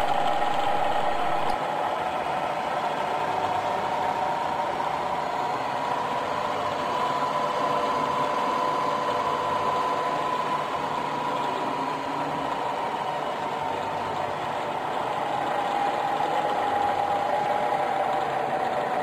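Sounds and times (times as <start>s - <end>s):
milling machine humming and whining: 0.0s - 19.0s.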